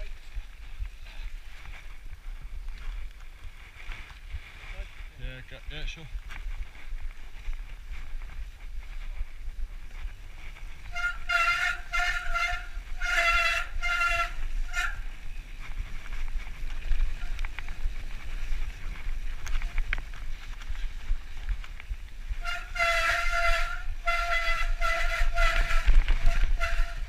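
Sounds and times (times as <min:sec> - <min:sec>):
tyres rumbling on dirt trail: 0:00.0 - 0:27.0
wind on camera: 0:00.0 - 0:27.0.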